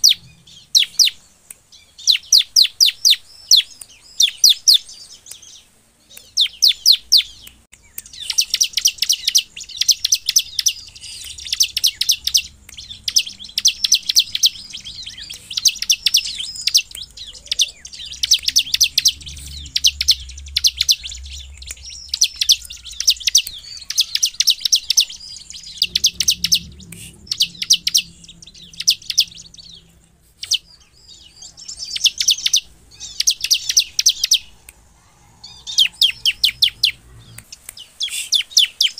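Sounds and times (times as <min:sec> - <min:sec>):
bird singing rapid chip notes: 0:00.0 - 0:38.9.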